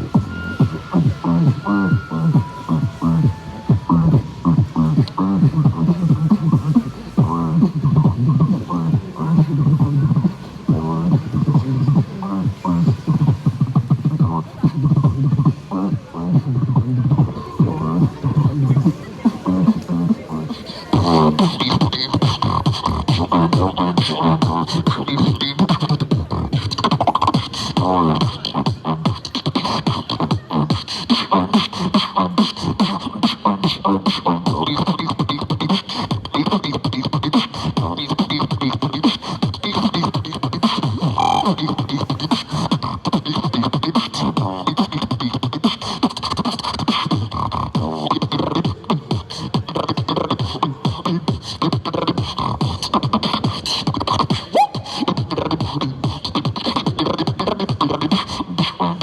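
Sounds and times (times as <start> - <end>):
person beatboxing: 0.0 - 59.0.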